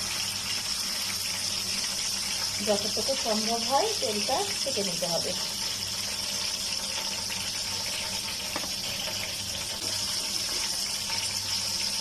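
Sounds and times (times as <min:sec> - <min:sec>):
oil sizzling in a pan: 0:00.0 - 0:12.0.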